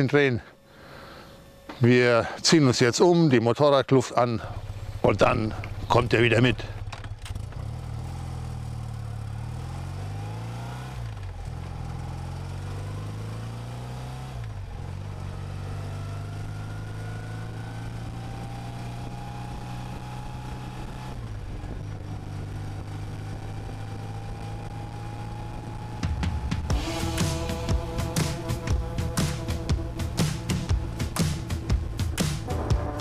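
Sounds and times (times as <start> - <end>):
motorcycle engine accelerating: 4.4 - 33.0.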